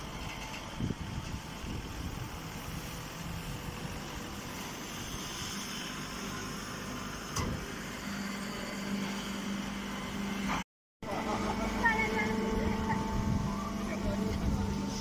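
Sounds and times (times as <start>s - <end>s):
baling machine running: 0.0s - 15.0s
steady hum: 0.0s - 15.0s.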